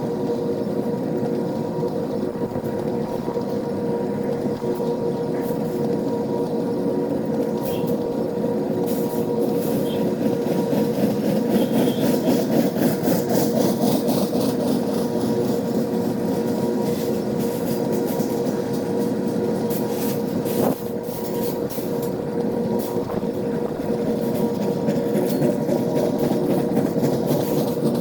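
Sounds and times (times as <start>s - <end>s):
freight train rumbling: 0.0s - 28.0s
wheels clicking over rail joints: 0.0s - 28.0s.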